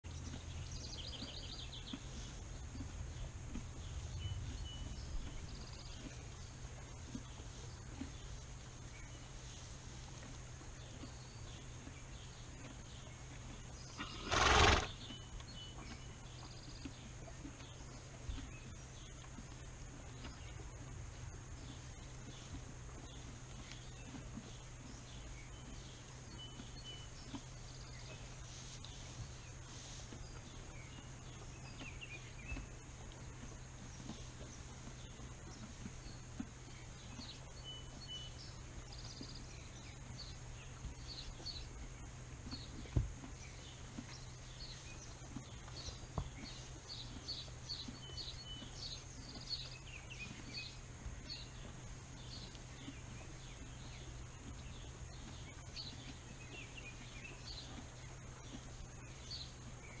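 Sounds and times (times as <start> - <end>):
small birds chirping: 0.1 - 60.0
steady low hum: 0.1 - 60.0.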